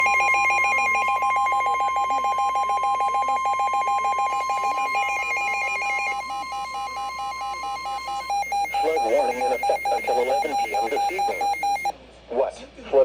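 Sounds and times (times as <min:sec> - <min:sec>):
lower tone beeping rapidly: 0:00.0 - 0:11.9
steady electronic alert tone: 0:00.0 - 0:11.9.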